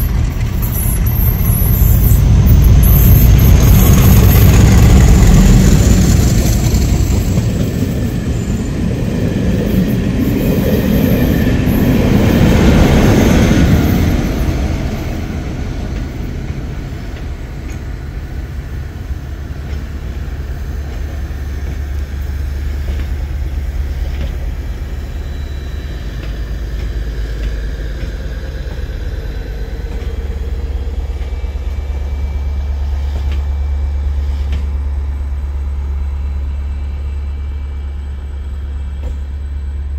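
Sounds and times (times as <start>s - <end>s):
train coaches running past: 0.0s - 39.9s.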